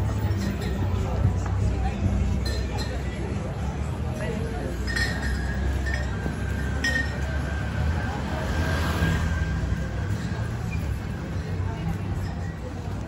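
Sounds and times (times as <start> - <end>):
low rumble of city noise: 0.0 - 13.0.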